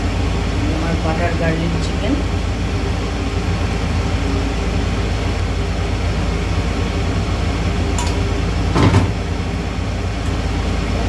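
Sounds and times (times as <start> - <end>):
fan whooshing drone: 0.0 - 11.0
low hum: 0.0 - 11.0.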